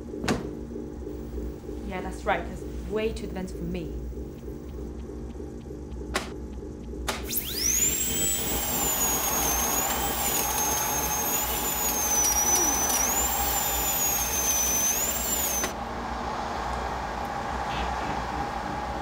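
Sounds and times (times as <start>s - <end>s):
high piercing wavering whine: 0.0s - 16.0s
mechanical hiss and low hum: 0.0s - 19.0s.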